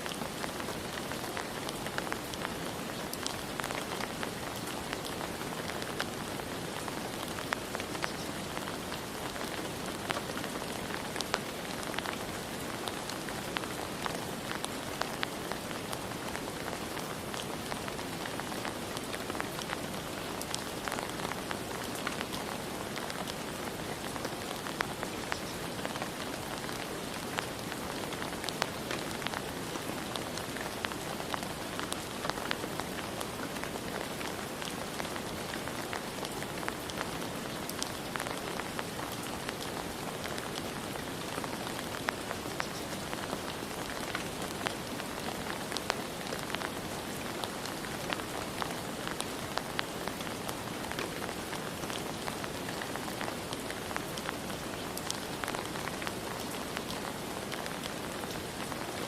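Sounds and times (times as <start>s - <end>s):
rain falling: 0.0s - 59.0s
raindrops pattering: 0.0s - 59.0s.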